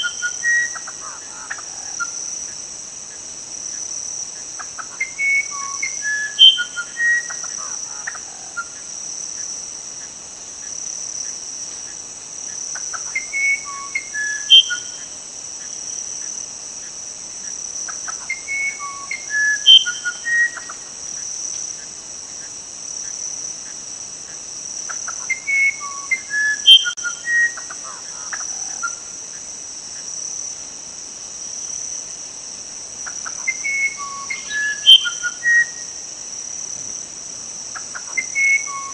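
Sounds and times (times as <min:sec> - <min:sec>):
high-pitched insect trill: 0:00.0 - 0:38.9
songbird singing: 0:00.0 - 0:38.9.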